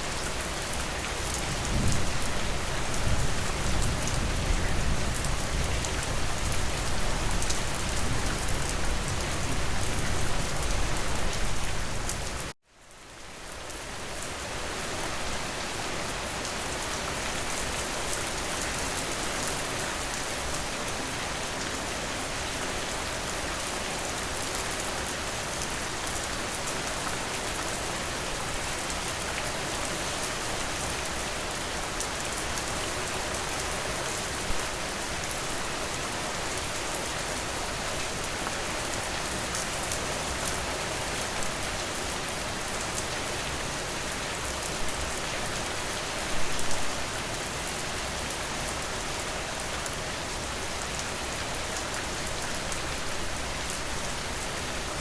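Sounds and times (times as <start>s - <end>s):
rain falling on a porch: 0.0s - 55.0s.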